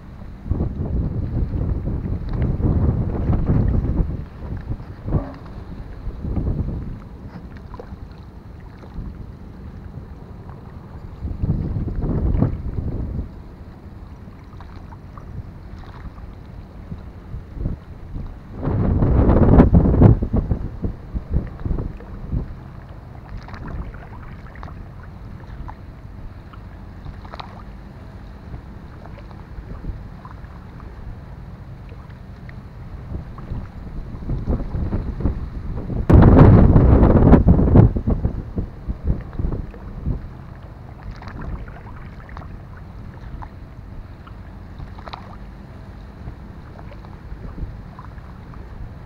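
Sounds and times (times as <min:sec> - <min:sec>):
water lapping and splashing: 0:00.0 - 0:49.0
wind buffeting microphone: 0:00.0 - 0:49.0.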